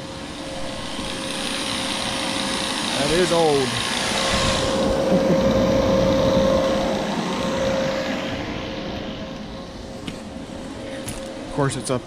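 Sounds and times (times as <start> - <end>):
machine whirring with whine: 0.0 - 12.0.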